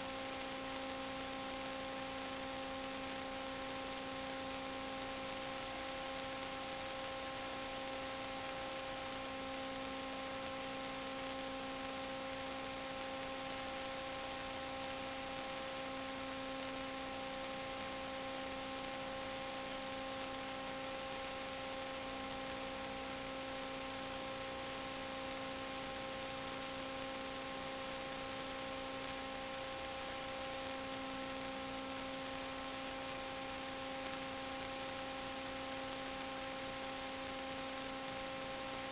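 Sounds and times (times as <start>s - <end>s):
constant hiss: 0.0s - 38.9s
steady electrical hum: 0.0s - 38.9s.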